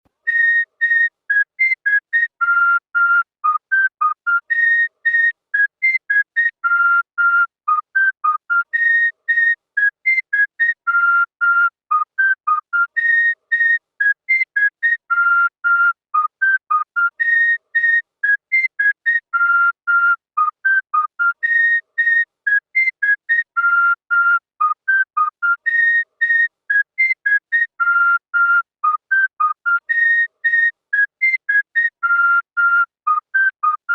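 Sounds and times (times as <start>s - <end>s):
whistled tune: 0.2s - 33.9s.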